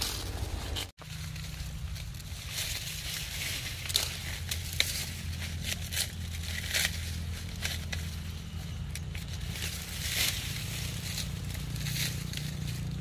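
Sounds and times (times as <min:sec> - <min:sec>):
dry leaves crackling and crumpling: 0:00.0 - 0:13.0
steady low rumble: 0:00.0 - 0:13.0.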